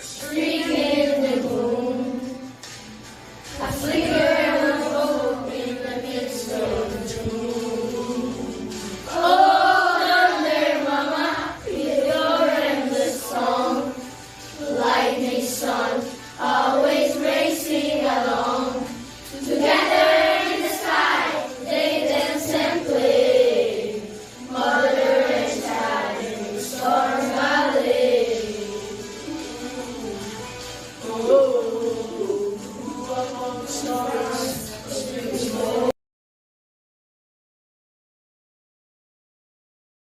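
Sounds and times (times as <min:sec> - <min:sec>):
children singing: 0:00.0 - 0:35.9.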